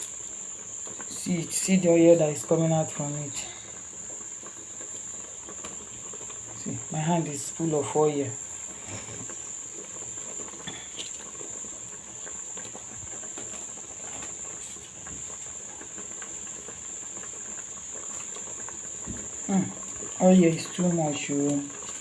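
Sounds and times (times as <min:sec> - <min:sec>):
soup boiling and bubbling: 0:00.0 - 0:22.0.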